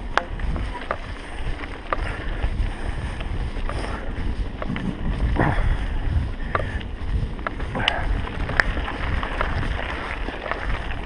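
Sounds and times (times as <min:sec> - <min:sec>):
bike clicks and rattles: 0:00.0 - 0:11.0
wind buffeting microphone: 0:00.0 - 0:11.0.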